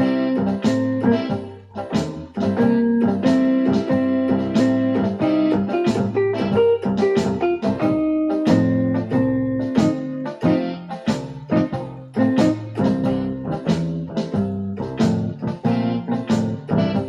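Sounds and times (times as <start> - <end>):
electronic keyboard playing blues: 0.0 - 17.0.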